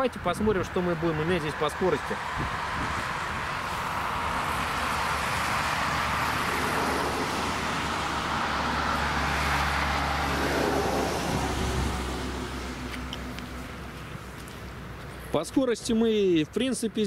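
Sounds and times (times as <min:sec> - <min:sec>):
road traffic rush: 0:00.0 - 0:17.0
low engine hum: 0:00.9 - 0:15.3.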